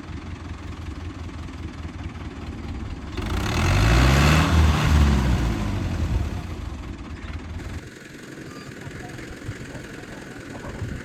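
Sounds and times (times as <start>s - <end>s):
engine idling: 0.0s - 11.0s
louder engine sound: 0.0s - 11.0s.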